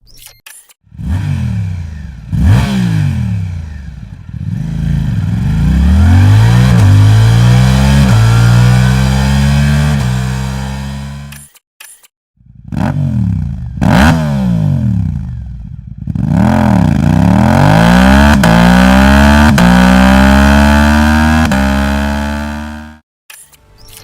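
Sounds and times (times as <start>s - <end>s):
motorcycle exhaust revving: 0.9s - 11.3s, 12.4s - 23.0s.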